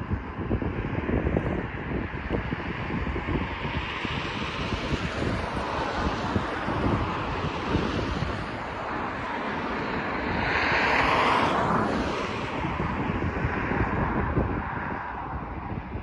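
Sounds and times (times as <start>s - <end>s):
outdoor noise rushing: 0.0s - 16.0s
wind buffeting microphone: 0.0s - 16.0s.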